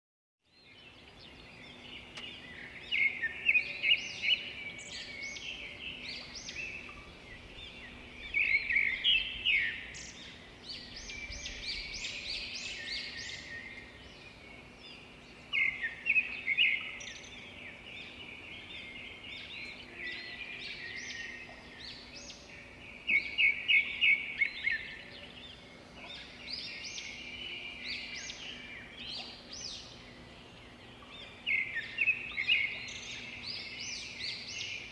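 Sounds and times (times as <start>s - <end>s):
songbirds chirping and singing: 0.4s - 34.9s.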